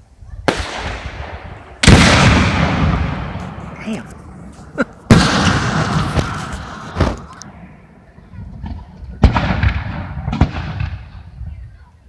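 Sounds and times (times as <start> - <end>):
fireworks bangs: 0.4 - 11.4
fireworks crackling: 0.5 - 11.4.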